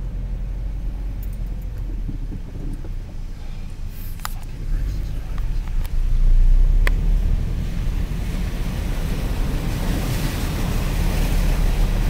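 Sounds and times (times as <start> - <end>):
car cabin rumble: 0.0 - 12.0
water spraying under tyres: 0.4 - 12.0.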